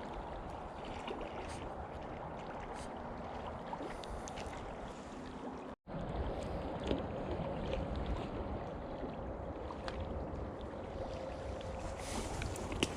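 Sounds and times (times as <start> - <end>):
river water flowing: 0.0 - 12.9.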